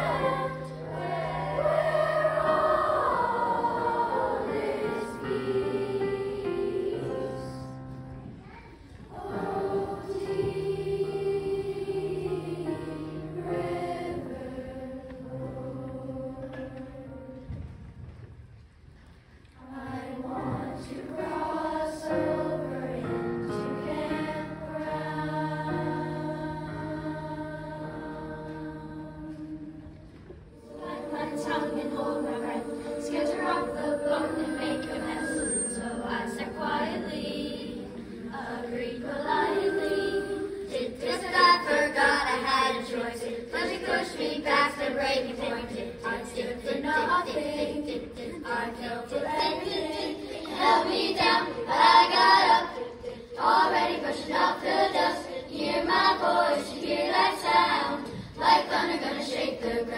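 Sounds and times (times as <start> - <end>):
children's choir singing: 0.0 - 17.8, 19.5 - 59.9.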